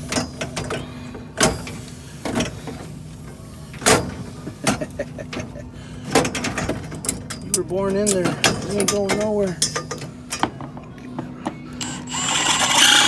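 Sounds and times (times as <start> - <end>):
steady machinery hum: 0.0 - 13.0.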